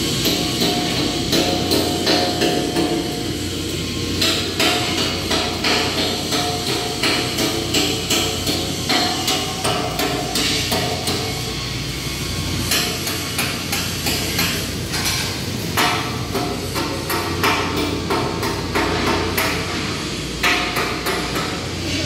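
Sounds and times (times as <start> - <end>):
hammer striking steel: 0.0 - 11.5, 12.6 - 21.8.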